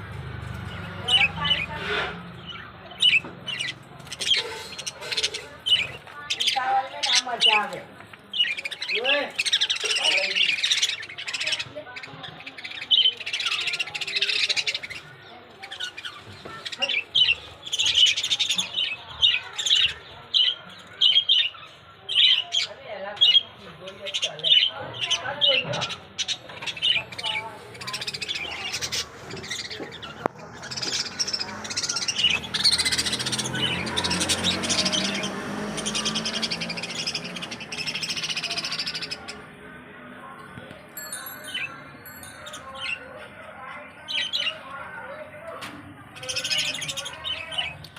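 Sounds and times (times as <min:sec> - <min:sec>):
budgerigars chirping and chattering: 0:00.1 - 0:39.6, 0:41.4 - 0:45.3, 0:46.0 - 0:47.9.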